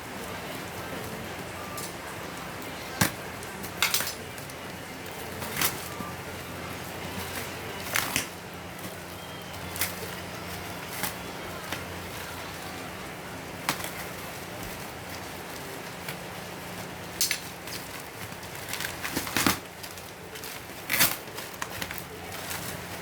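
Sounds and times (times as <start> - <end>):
packaging crackling and snapping: 2.7 - 6.2, 6.8 - 13.0, 13.6 - 23.0.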